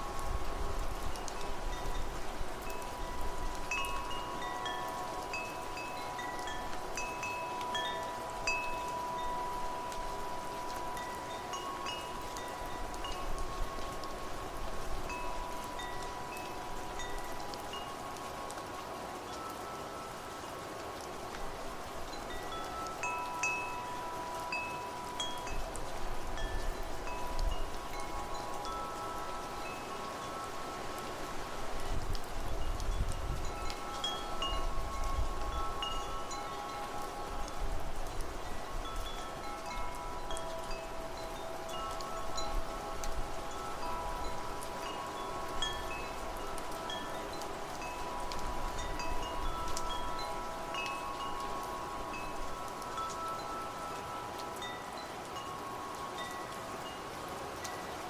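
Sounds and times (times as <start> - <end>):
hiss of rain and wind: 0.0 - 58.0
wind chimes ringing: 0.0 - 58.0.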